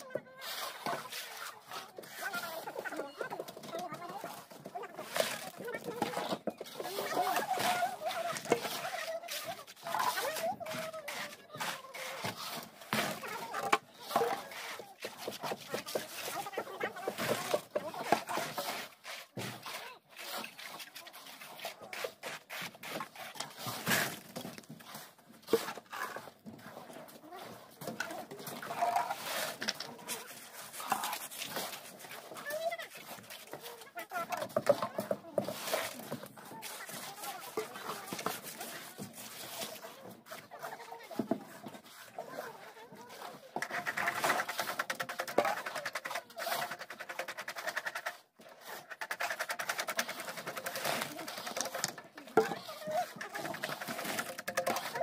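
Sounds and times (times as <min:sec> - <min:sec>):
hand tool scraping wet concrete: 0:00.0 - 0:55.0.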